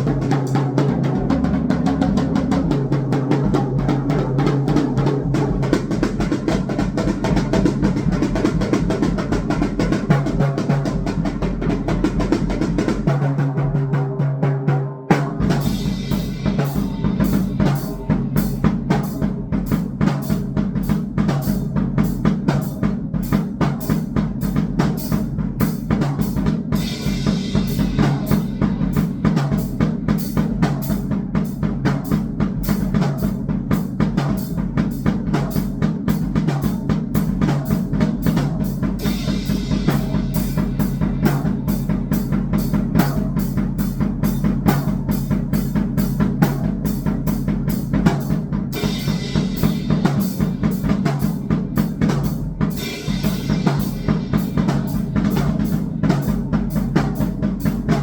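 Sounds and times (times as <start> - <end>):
fast electronic drumming: 0.0 - 13.1, 15.2 - 58.0.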